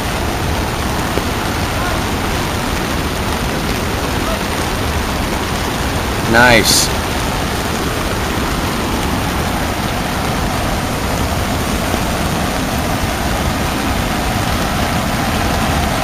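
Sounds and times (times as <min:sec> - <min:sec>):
floodwater rushing over road: 0:00.0 - 0:16.0.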